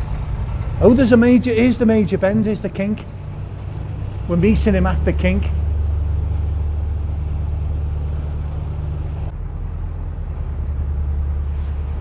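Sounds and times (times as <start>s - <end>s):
diesel boat engine running: 0.0s - 12.0s.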